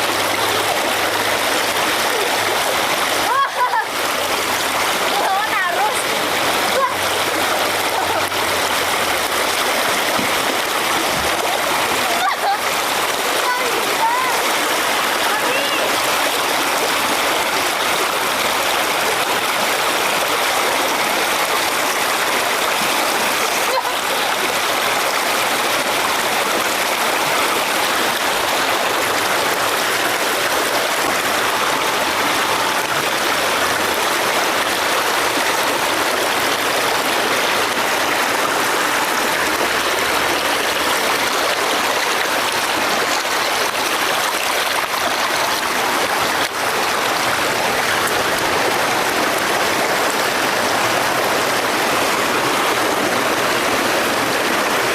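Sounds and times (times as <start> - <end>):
fast river current rushing: 0.0 - 54.9.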